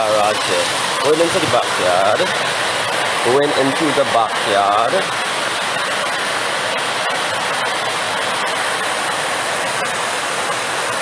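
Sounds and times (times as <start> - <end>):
heavy rain and runoff rushing: 0.0 - 11.0.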